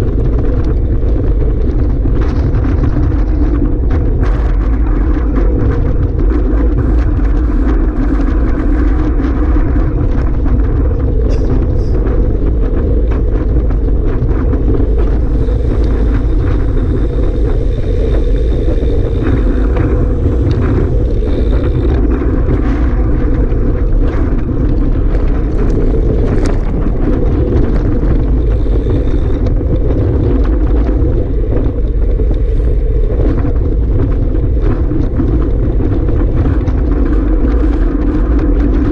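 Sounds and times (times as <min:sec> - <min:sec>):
strong wind on microphone: 0:00.0 - 0:38.9.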